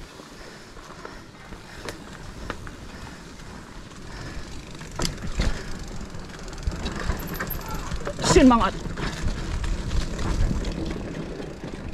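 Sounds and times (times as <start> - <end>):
tyres rumbling on dirt: 0.0 - 11.9
bike rattling and knocking: 0.4 - 11.9.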